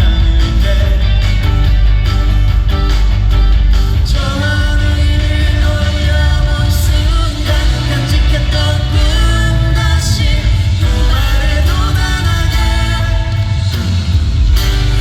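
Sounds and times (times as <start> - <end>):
pop-rock song with vocals: 0.0 - 15.0.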